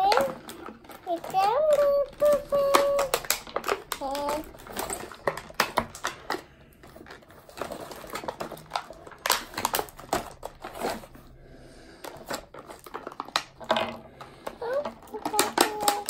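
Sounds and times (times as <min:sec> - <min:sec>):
plastic toy pieces clacking: 0:00.0 - 0:11.1, 0:12.0 - 0:16.0
plastic packaging crinkling: 0:00.0 - 0:16.0.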